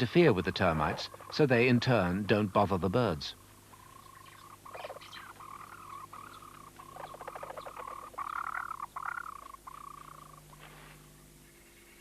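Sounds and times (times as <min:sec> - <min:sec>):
birds giving buzzy churring calls: 0:00.0 - 0:12.0.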